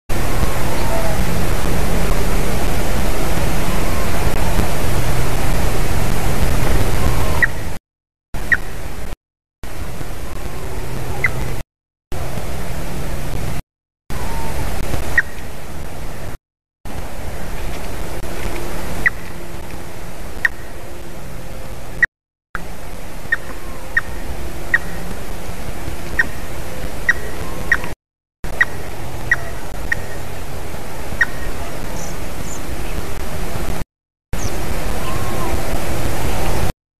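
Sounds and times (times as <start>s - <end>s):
steady rushing noise: 0.1s - 7.8s, 8.4s - 33.8s, 34.4s - 36.7s.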